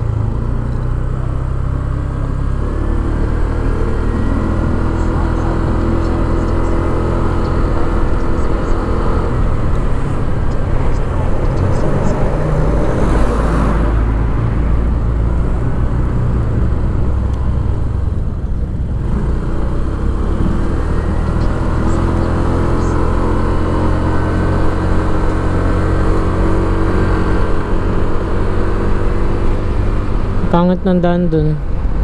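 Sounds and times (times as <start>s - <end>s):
scooter engine running: 0.0s - 32.0s
wind and road noise: 0.0s - 32.0s.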